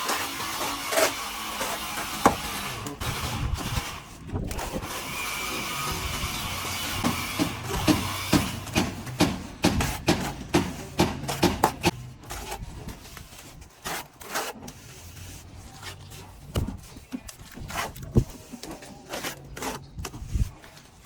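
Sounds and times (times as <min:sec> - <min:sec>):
trowel scraping plaster: 0:00.0 - 0:21.0.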